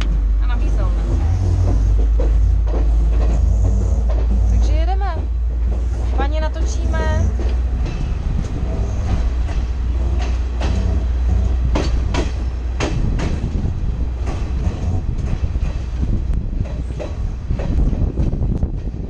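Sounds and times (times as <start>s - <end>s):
train wheels rumbling: 0.0s - 19.0s
wheels clacking on rail joints: 0.0s - 19.0s.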